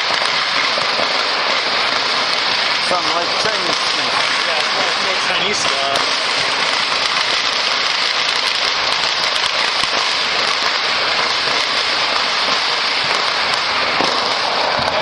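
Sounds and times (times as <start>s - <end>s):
distant fireworks crackling: 0.0s - 15.0s.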